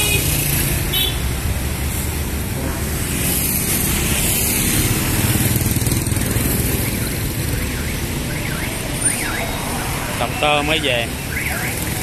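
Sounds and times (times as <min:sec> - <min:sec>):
motorbikes passing: 0:00.0 - 0:12.0
road traffic: 0:00.0 - 0:12.0.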